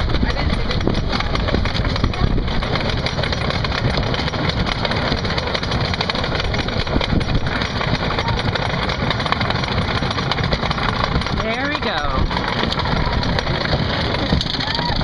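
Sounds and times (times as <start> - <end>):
roller coaster rattling on track: 0.0 - 15.0.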